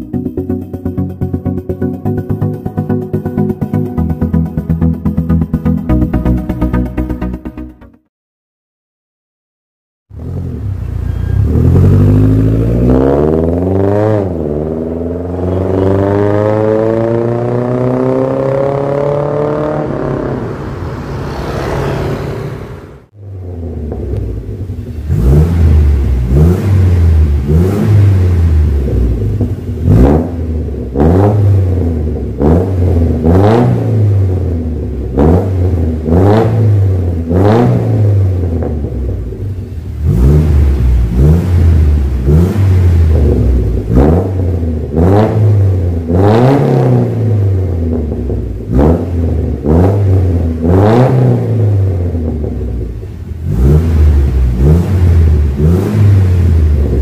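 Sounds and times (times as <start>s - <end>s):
car accelerating away: 10.1s - 57.0s
car engine revving: 10.1s - 57.0s.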